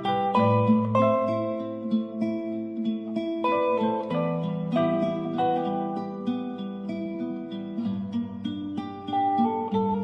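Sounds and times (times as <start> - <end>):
plucked-string instrumental music: 0.0 - 10.0.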